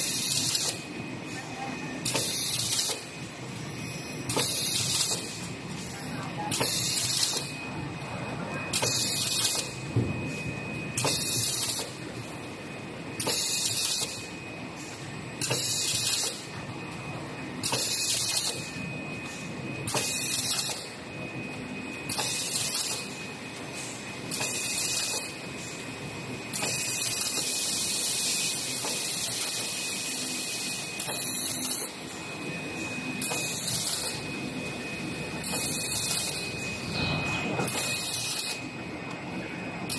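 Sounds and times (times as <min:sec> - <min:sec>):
machine humming with high whine: 0:00.0 - 0:39.9.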